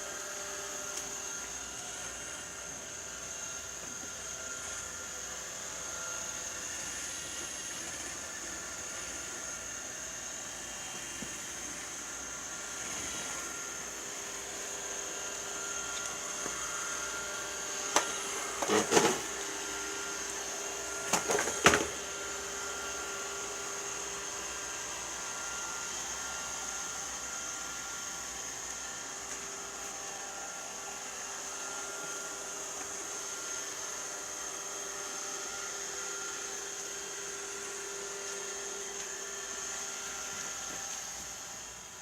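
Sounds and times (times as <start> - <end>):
robot vacuum cleaner whirring: 0.0 - 42.0.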